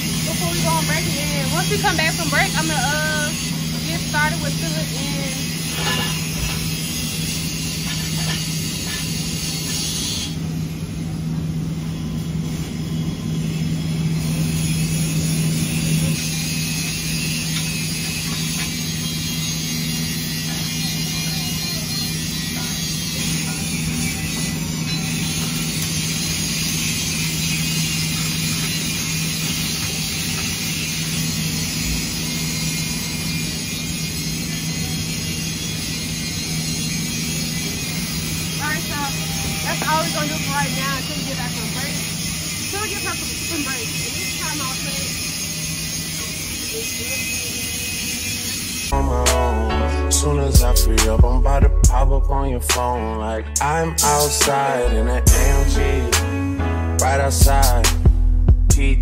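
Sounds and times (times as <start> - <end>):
motor humming: 0.0 - 52.9.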